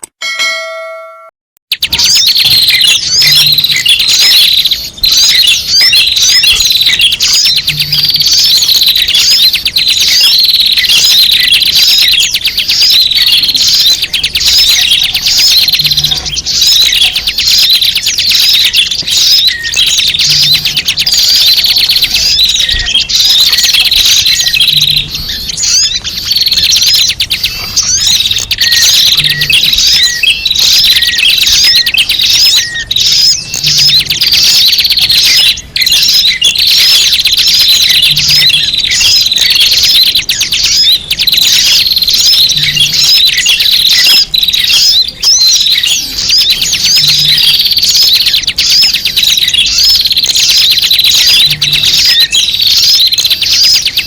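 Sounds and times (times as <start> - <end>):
small birds chirping: 1.7 - 54.0.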